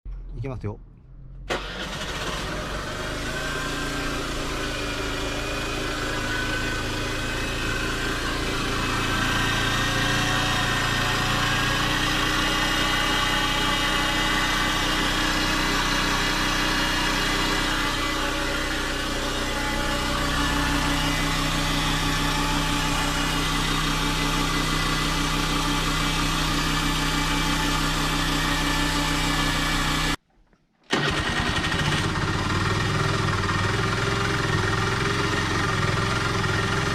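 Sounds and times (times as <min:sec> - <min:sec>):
scooter engine idling: 0:01.6 - 0:30.2, 0:30.9 - 0:36.9.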